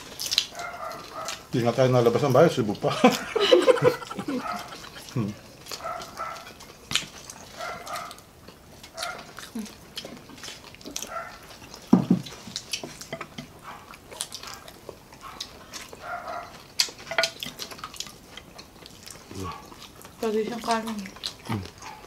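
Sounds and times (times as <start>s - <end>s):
crunching and chewing crispy food: 0.0s - 22.0s.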